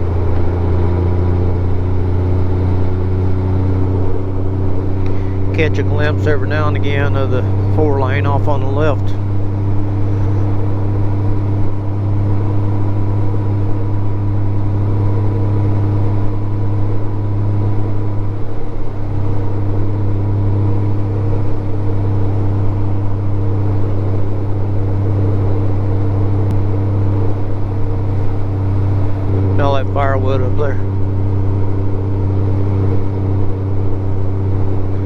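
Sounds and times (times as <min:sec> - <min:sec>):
motorcycle engine humming: 0:00.0 - 0:35.0.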